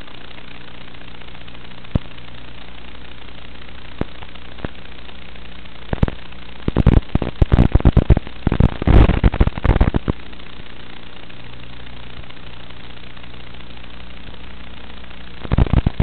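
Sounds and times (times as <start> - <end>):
crackling radio static: 0.0 - 16.0
video receiver hum and hiss: 0.0 - 16.0.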